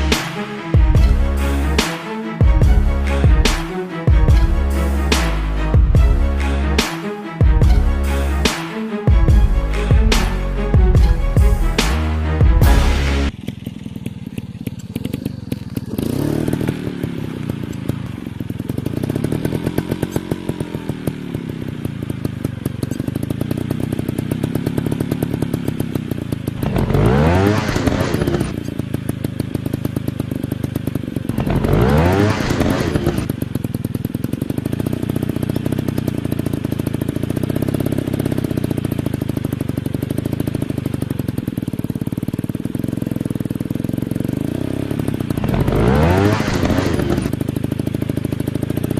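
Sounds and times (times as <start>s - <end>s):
dirt bike engine revving: 0.0s - 48.9s
dirt bike engines running: 9.2s - 48.9s.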